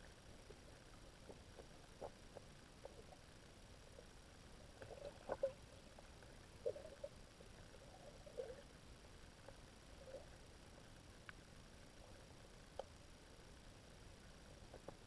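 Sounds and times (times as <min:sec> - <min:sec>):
faint underwater clicks: 0:00.0 - 0:15.0.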